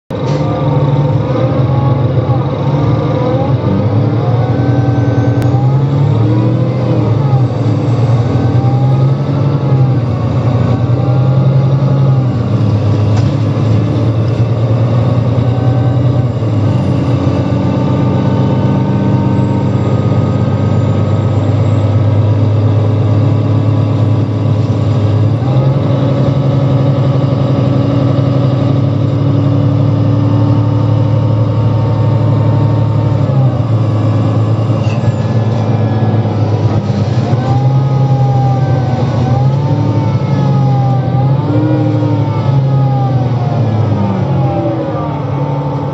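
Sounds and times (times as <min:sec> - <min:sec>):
bus engine shifting gears: 0:00.1 - 0:45.9.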